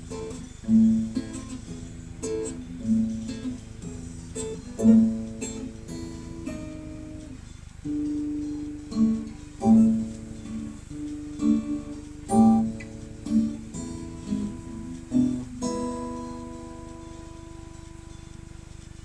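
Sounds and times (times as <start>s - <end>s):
acoustic guitar playing slow tune: 0.0s - 19.0s.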